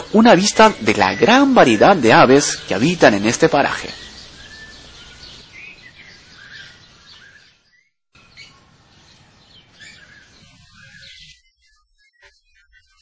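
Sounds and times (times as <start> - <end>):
soft outdoor hiss: 0.0 - 11.3
birds chirping and calling: 0.0 - 13.0.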